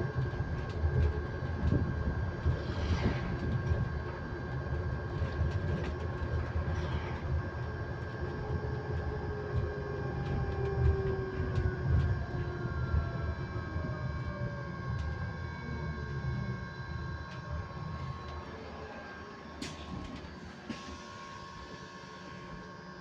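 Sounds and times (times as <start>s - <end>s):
electric bus high whine: 0.0s - 23.0s.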